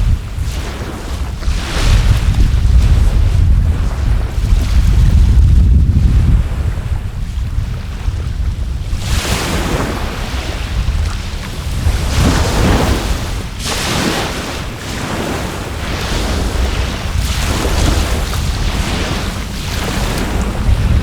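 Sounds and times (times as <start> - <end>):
sea waves washing onto shore: 0.0 - 5.6, 6.3 - 21.0
wind rumbling on microphone: 0.0 - 21.0.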